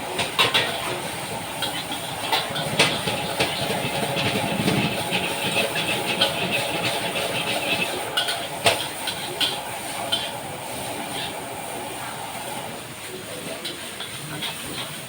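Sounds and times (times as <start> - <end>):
food frying: 0.0 - 15.0.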